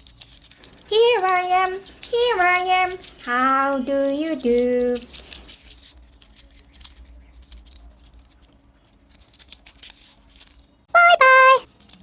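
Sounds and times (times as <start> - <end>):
toy cars clicking and rustling: 0.0 - 10.9, 11.6 - 12.0
low steady hum: 0.0 - 12.0.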